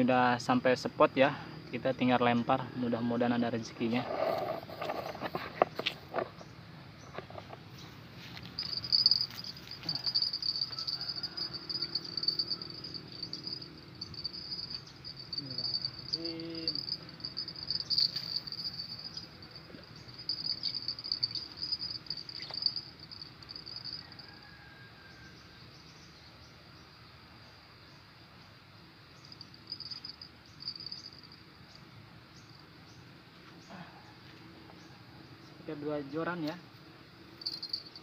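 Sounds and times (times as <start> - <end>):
insects trilling: 0.0 - 38.0.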